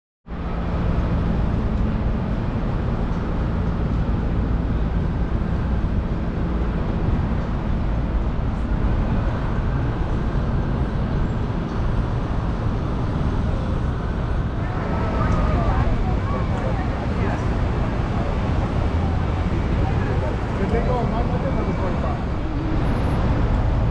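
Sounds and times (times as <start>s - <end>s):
vehicle rumble: 0.3s - 23.9s.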